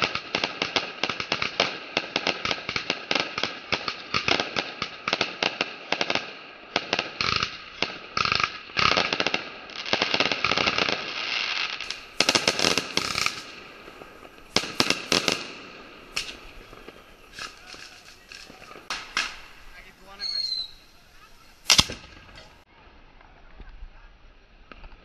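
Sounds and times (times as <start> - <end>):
crackling star bursts: 0.0 - 23.7
fireworks barrage: 0.0 - 24.0.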